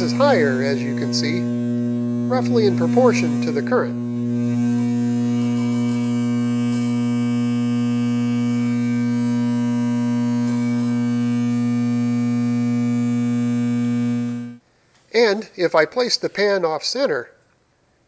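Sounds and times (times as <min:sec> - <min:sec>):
loud electrical hum of magnet coils: 0:00.0 - 0:14.6.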